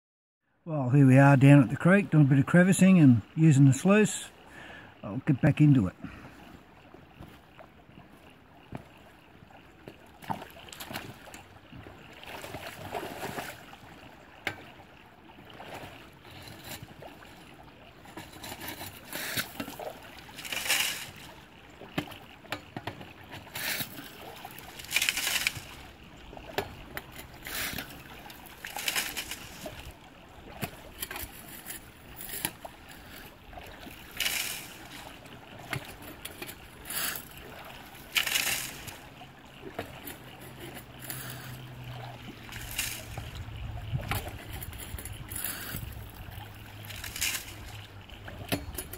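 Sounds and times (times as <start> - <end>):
water sloshing and splashing: 1.0 - 48.9.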